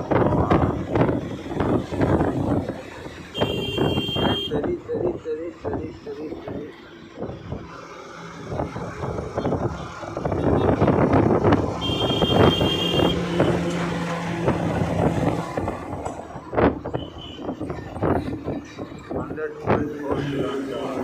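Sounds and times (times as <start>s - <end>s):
motorcycle engine and road noise: 0.0s - 21.0s
nearby traffic: 0.0s - 21.0s.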